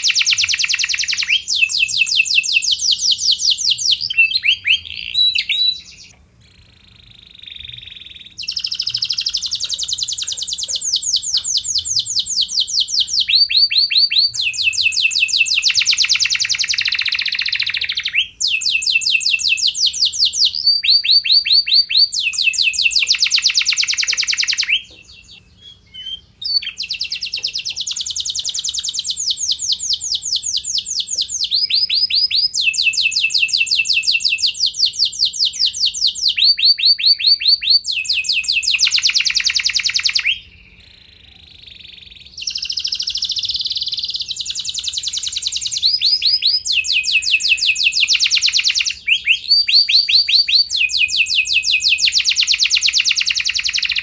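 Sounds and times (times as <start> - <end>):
canary singing rapid trills: 0.0 - 54.0.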